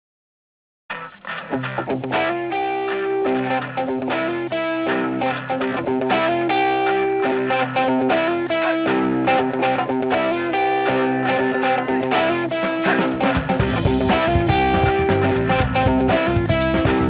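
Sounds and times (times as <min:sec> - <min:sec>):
plucked guitar music: 0:00.9 - 0:17.0.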